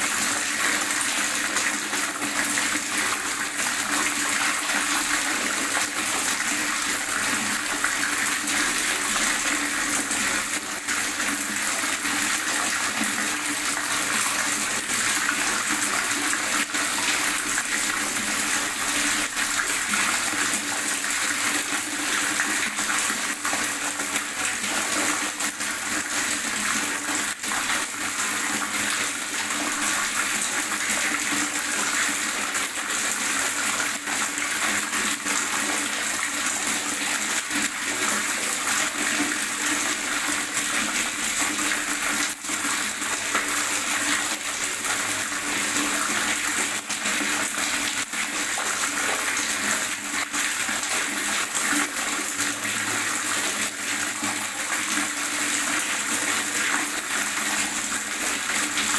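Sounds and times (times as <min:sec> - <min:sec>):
water gurgling and splashing: 0:00.0 - 0:58.9.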